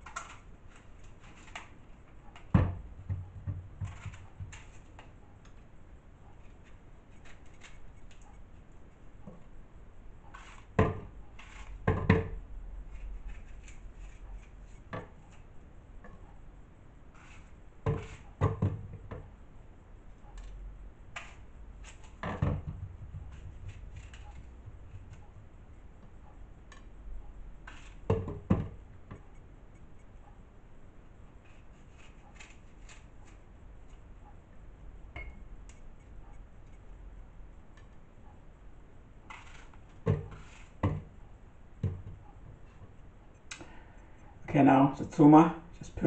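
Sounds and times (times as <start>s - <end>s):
handling and scraping: 0.0s - 16.4s, 17.0s - 19.4s, 20.1s - 46.0s.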